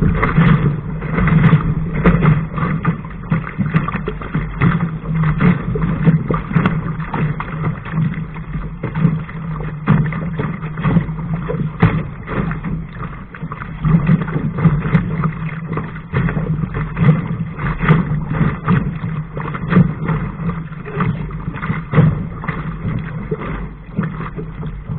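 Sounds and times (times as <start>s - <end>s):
steady low rumble: 0.0s - 24.9s
water rushing along a hull: 0.0s - 24.9s
waves slapping against hull: 0.0s - 24.9s.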